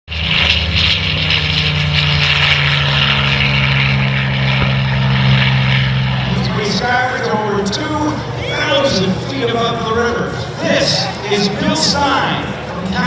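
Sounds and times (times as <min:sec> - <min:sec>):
propeller plane engine drone: 0:00.1 - 0:13.0.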